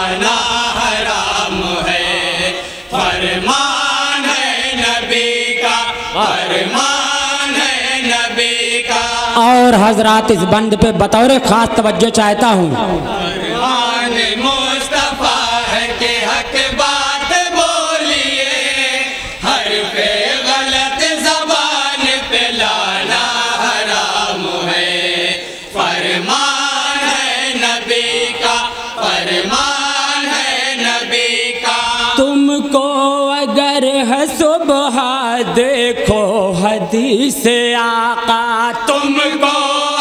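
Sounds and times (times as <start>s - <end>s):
men chanting in chorus: 0.0s - 10.5s, 12.5s - 40.0s.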